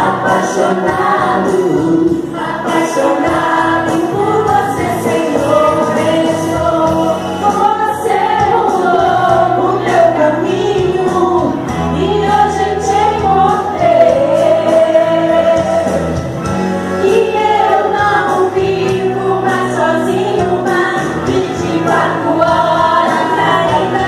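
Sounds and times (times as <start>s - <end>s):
group singing gospel song: 0.0s - 24.0s
instrumental accompaniment: 0.0s - 24.0s.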